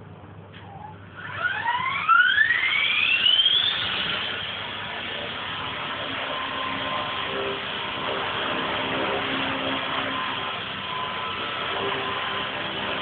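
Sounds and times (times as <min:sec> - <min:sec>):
rc helicopter rotor whine: 0:01.1 - 0:13.0.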